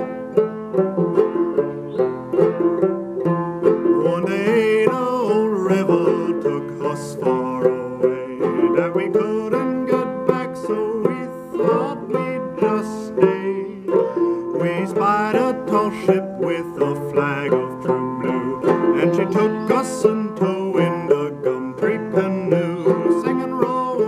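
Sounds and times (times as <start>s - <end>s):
banjo plucked notes: 0.0s - 24.0s.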